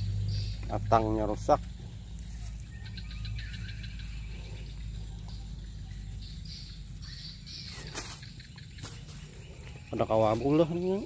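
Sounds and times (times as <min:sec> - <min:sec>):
birds chirping: 0:00.0 - 0:11.0
steady low rumble: 0:00.0 - 0:11.0.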